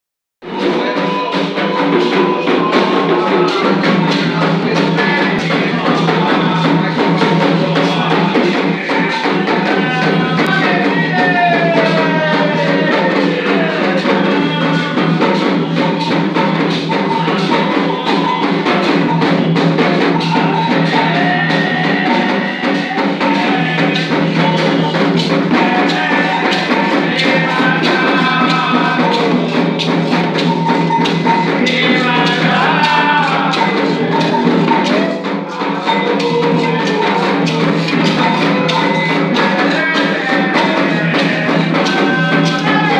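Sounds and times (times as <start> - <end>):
music with steady percussion: 0.4 - 42.9.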